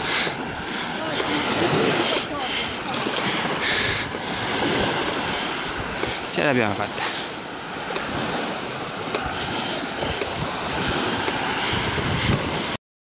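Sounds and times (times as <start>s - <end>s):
small waves breaking on shore: 0.0s - 12.8s
wind buffeting microphone: 0.0s - 12.8s.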